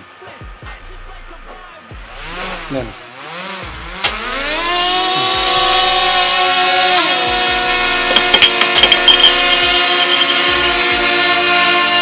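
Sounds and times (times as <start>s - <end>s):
drone propellers whining: 1.9s - 12.0s.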